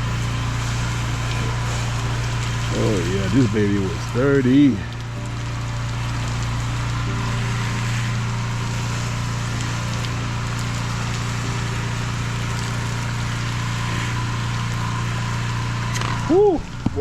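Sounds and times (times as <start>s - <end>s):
pump droning: 0.0s - 17.0s
spray hissing: 0.0s - 17.0s.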